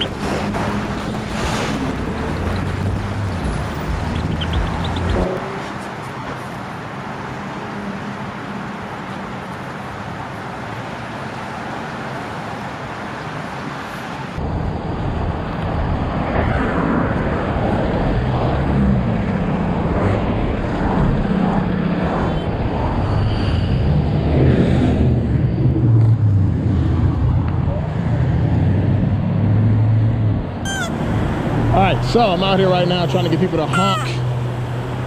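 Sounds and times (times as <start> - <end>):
road traffic passing: 0.0 - 14.4, 16.8 - 35.0.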